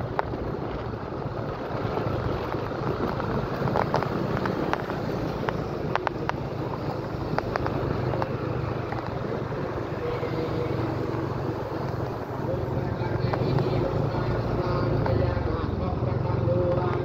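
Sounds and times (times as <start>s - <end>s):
vehicle engine hum and road noise: 0.0s - 17.0s
wind buffeting microphone: 0.0s - 17.0s.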